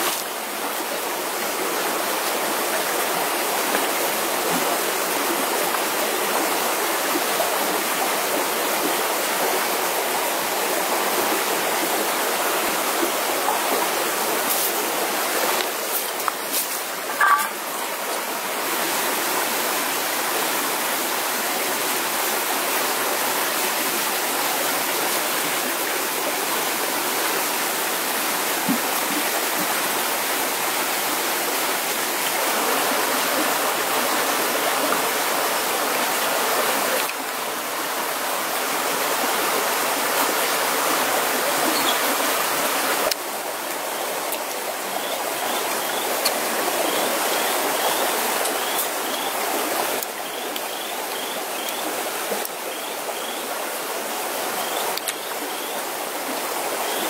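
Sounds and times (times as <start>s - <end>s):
stream water over rocks: 0.0s - 57.0s.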